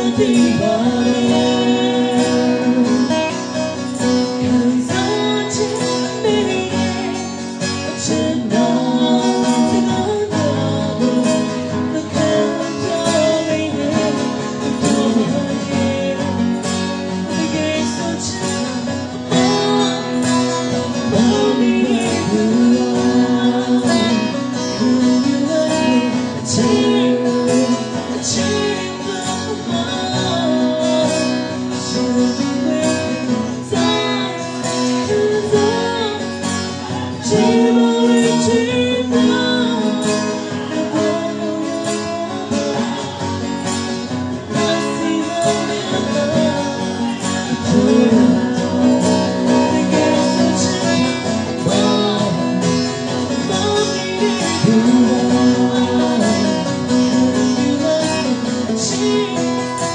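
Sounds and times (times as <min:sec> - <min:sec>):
strummed acoustic guitar: 0:00.0 - 0:59.9
woman singing into a microphone: 0:00.0 - 0:59.9.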